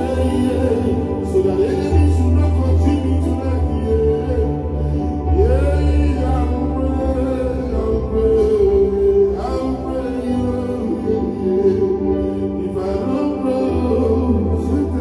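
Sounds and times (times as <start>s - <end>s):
electronic keyboard chords and bass: 0.0s - 15.0s
man singing: 0.0s - 15.0s.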